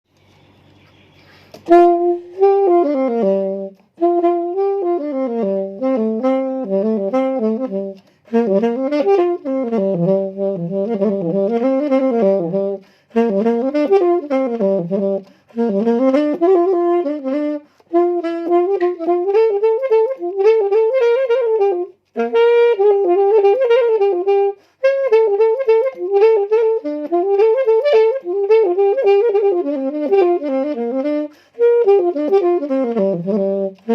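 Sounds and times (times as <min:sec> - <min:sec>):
solo saxophone melody: 0:00.1 - 0:33.9.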